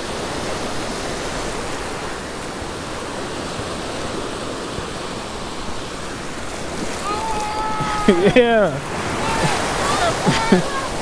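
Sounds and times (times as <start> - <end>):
surf breaking: 0.8 - 11.0.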